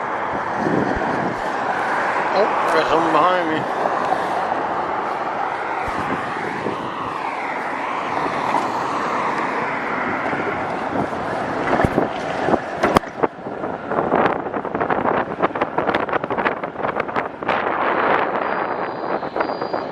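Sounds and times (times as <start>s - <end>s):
road and traffic noise: 0.0s - 19.9s
wind rushing over microphone: 0.0s - 19.9s.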